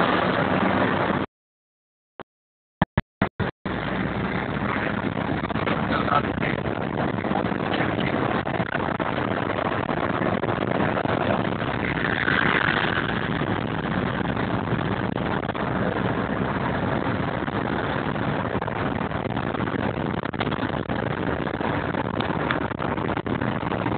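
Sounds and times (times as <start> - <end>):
vehicle engine and road noise: 0.0 - 1.3, 3.2 - 23.9.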